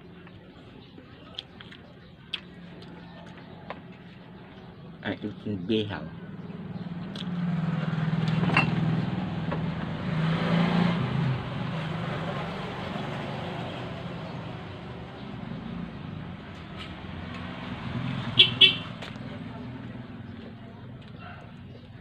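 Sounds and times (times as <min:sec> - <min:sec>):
vehicle engine passing: 0:02.2 - 0:22.0.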